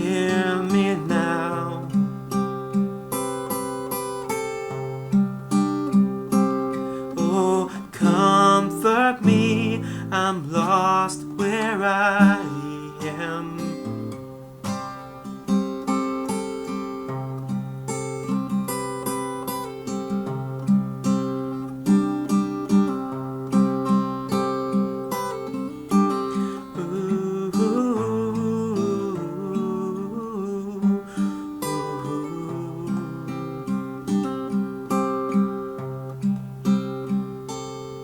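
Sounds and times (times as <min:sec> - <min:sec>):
acoustic guitar: 0:00.0 - 0:38.0.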